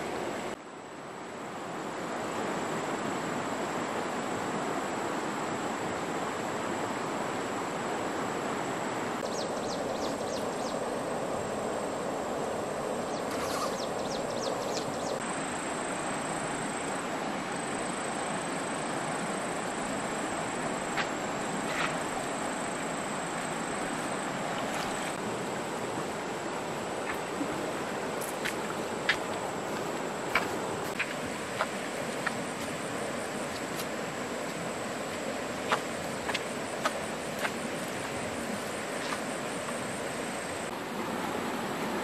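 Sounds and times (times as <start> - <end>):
stream flowing: 0.0 - 42.0.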